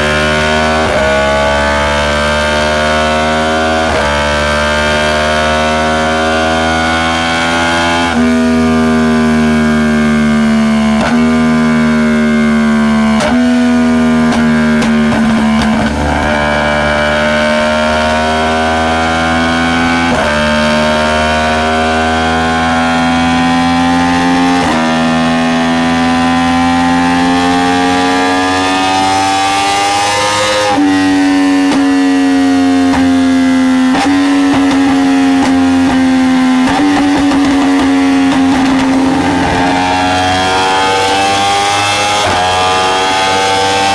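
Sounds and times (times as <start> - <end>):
motorcycle engine under load: 0.0 - 43.9.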